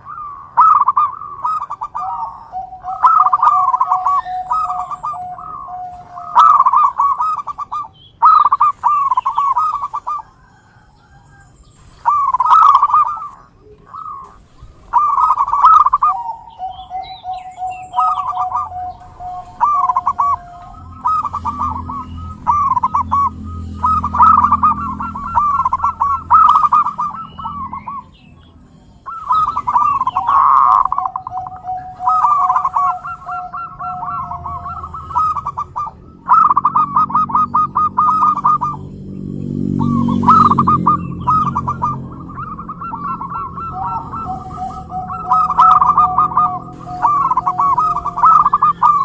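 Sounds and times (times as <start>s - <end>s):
doves cooing: 0.0s - 49.0s
low steady hum: 0.0s - 49.0s.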